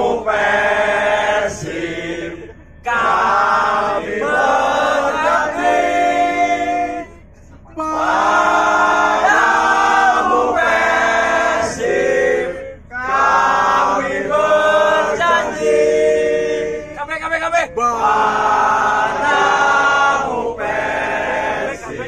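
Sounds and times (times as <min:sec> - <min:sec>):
men singing together: 0:00.0 - 0:07.1, 0:07.8 - 0:16.9, 0:17.9 - 0:22.0.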